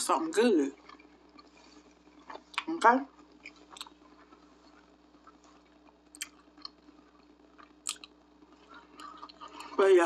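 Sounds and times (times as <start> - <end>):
person chewing with wet clicks: 0.8 - 9.8.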